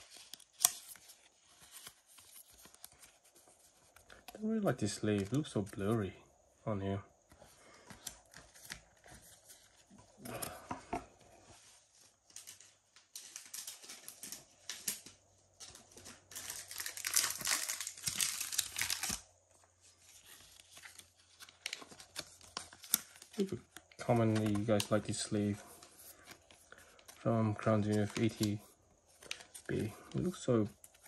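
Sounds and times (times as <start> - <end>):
plastic card sleeves crinkling: 0.0 - 6.1, 7.3 - 11.2, 12.2 - 31.0.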